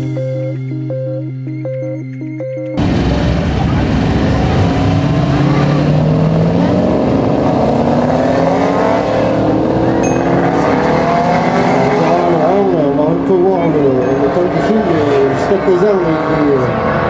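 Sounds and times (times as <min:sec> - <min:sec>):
racing car engines accelerating: 0:02.8 - 0:17.0.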